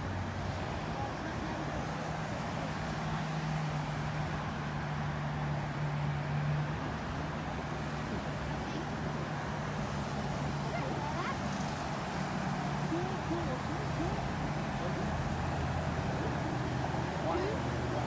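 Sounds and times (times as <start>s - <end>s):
faint outdoor background noise: 0.0s - 18.0s.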